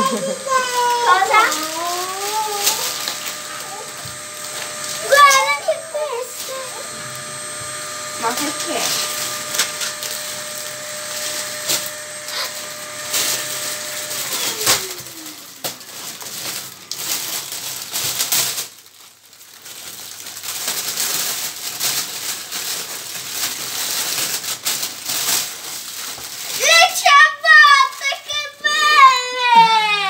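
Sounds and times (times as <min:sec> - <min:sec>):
plastic and paper wrapping rustling: 0:00.0 - 0:30.0.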